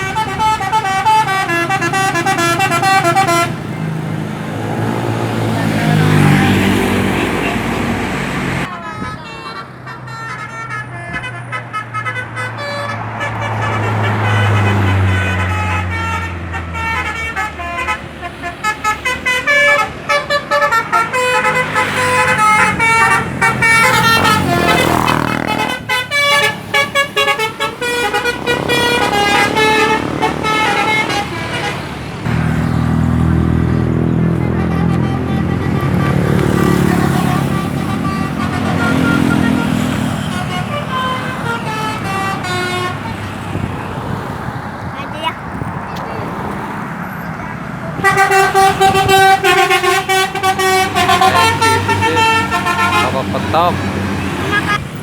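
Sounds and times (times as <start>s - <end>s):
musical bus horns playing tunes: 0.0s - 44.4s, 47.2s - 55.0s
bus engine running: 0.0s - 55.0s.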